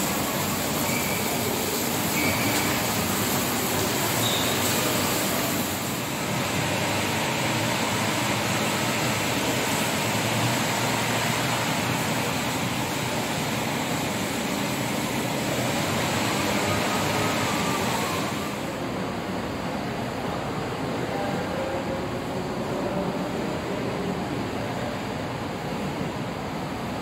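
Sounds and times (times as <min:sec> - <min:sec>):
steady rushing background noise: 0:00.0 - 0:27.0.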